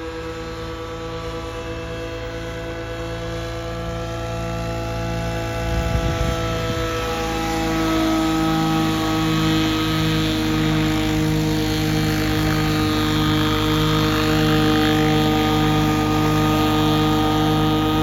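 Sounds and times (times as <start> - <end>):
model helicopter engine running: 0.0 - 18.0.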